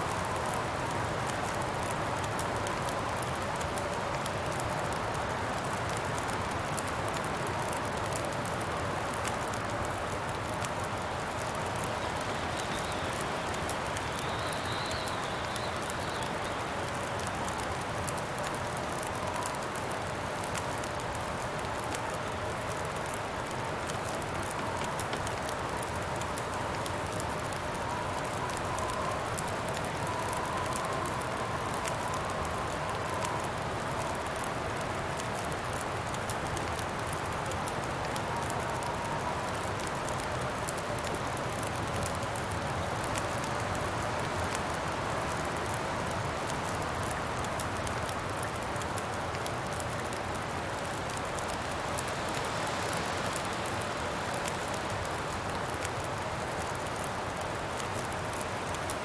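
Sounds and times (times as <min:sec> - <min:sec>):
faint wavering wind whistle: 0:00.0 - 0:06.4, 0:07.0 - 0:59.0
campfire crackling: 0:00.0 - 0:59.0.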